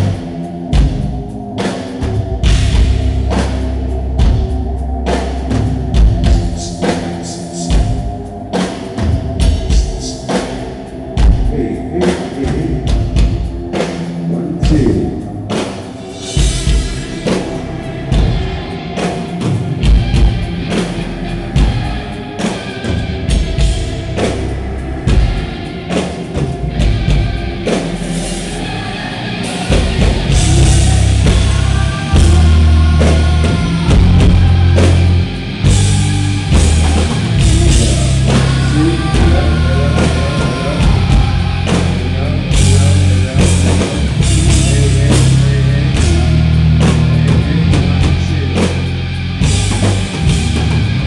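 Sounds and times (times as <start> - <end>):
heavy metal band playing live: 0.0 - 51.0.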